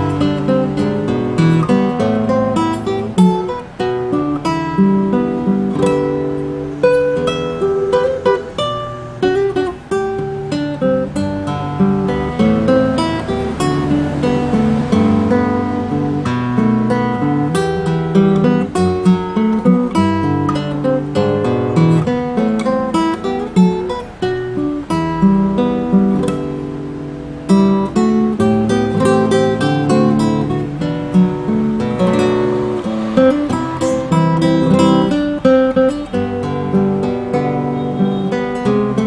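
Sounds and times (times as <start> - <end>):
fingerstyle classical guitar: 0.0 - 39.0.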